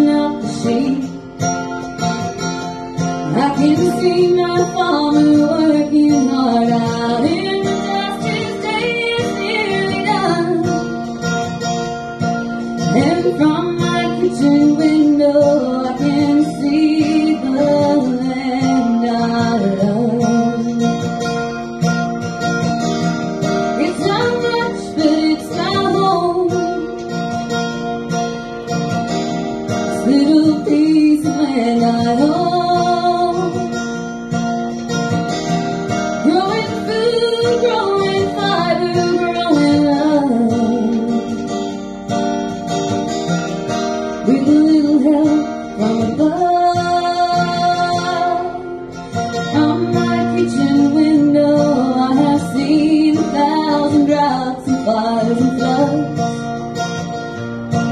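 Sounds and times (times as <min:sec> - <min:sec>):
woman singing: 0:00.0 - 0:21.6, 0:23.4 - 0:27.8, 0:29.7 - 0:34.1, 0:35.9 - 0:42.0, 0:44.1 - 0:56.4
strummed acoustic guitar: 0:00.0 - 0:57.9.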